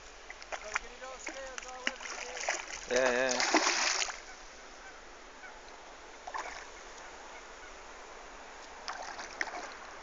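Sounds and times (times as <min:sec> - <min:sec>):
soft steady hiss: 0:00.0 - 0:10.0.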